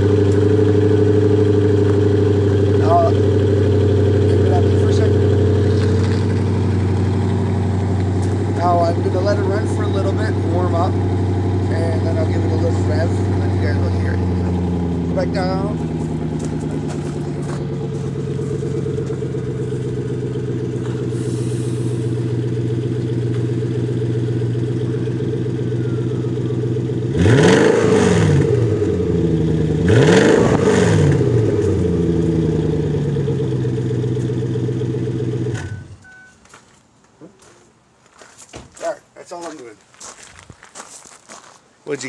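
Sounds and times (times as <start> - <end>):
car engine revving: 0.0 - 35.9
car engine idling: 0.0 - 36.3.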